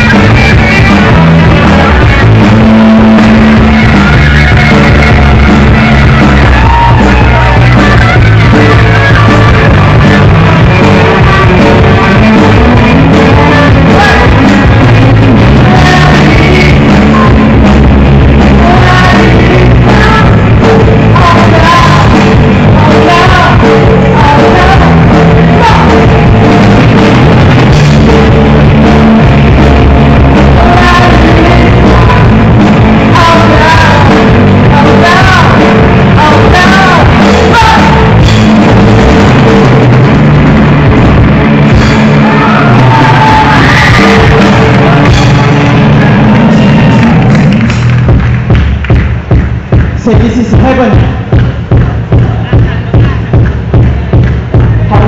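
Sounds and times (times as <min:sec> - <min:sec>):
person singing lead vocals: 0:00.0 - 0:40.4, 0:41.6 - 0:47.5, 0:49.9 - 0:55.0
rock band playing: 0:00.0 - 0:55.0.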